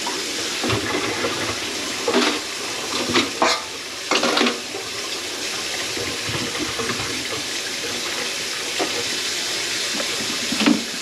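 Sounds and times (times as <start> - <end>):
tap running water into sink: 0.0 - 11.0.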